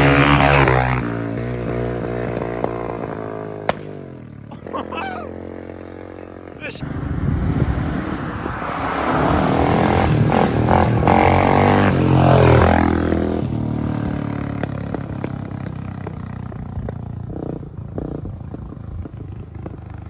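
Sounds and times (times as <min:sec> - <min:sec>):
dirt bike engine: 0:00.0 - 0:20.0.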